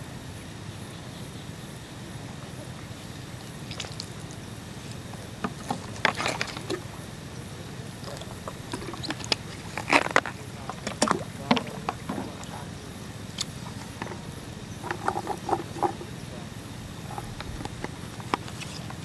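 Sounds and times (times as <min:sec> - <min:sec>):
steady low hum: 0:00.0 - 0:19.0
water splashing and sloshing: 0:02.3 - 0:19.0.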